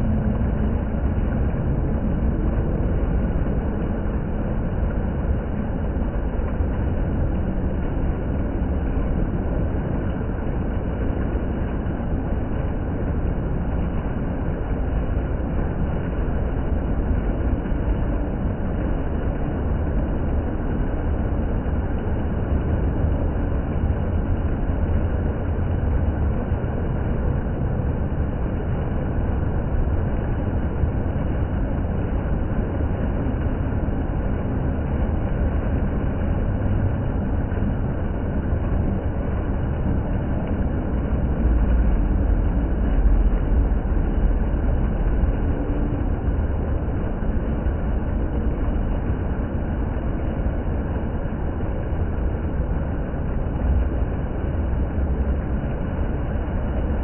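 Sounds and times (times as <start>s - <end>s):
water fountain splashing: 0.0s - 57.0s.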